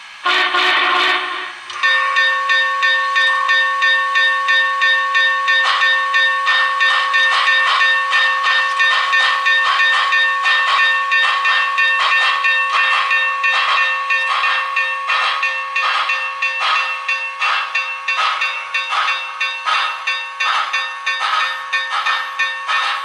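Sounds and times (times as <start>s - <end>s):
model steam locomotive chuffs: 0.0s - 23.0s
steady ringing tones: 0.3s - 23.0s.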